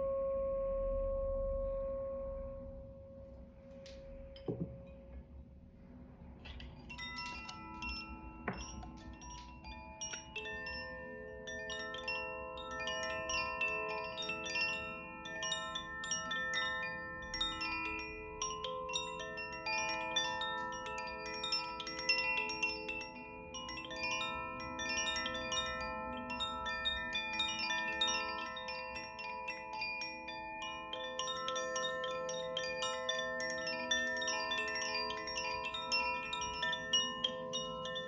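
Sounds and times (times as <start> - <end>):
chimes tinkling: 3.8 - 5.1, 6.5 - 38.0.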